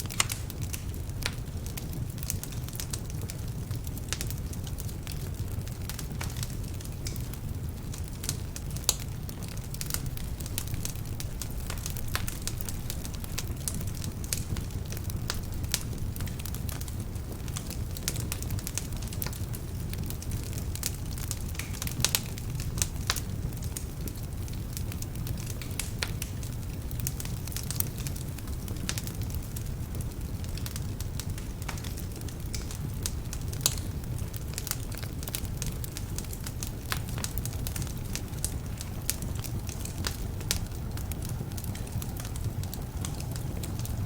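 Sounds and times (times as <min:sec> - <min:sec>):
fire rumbling: 0:00.0 - 0:44.0
logs crackling and popping: 0:00.0 - 0:44.0.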